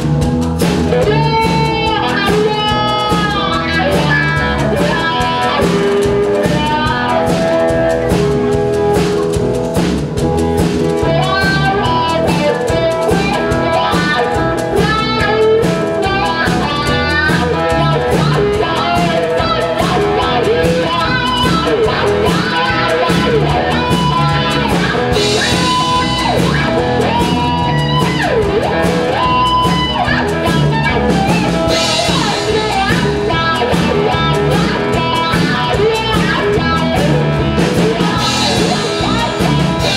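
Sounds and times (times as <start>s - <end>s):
amplified blues guitar: 0.0s - 39.9s
steady beat: 0.0s - 39.9s.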